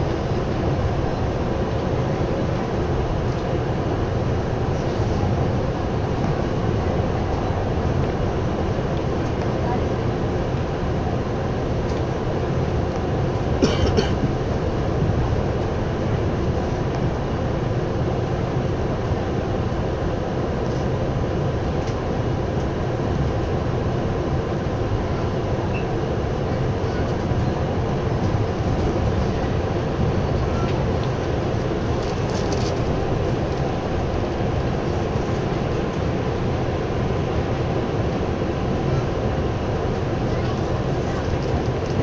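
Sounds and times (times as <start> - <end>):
train rumble from inside carriage: 0.0 - 42.0.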